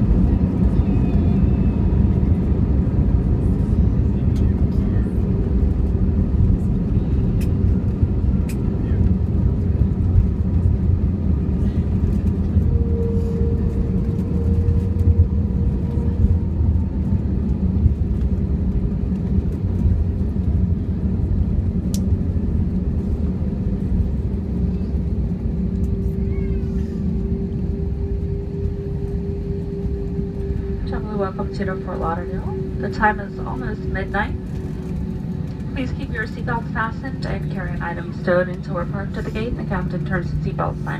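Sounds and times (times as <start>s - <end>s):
low rumble of engines and wheels: 0.0s - 40.9s.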